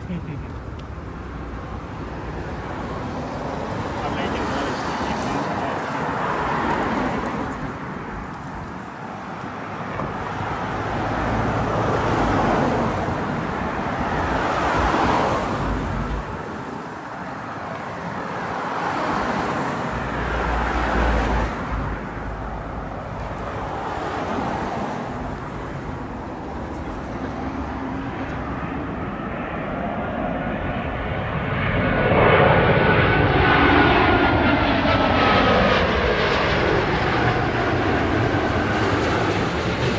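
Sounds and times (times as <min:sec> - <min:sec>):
high engine whine: 0:00.0 - 0:39.9
jet engines roaring: 0:00.0 - 0:39.9.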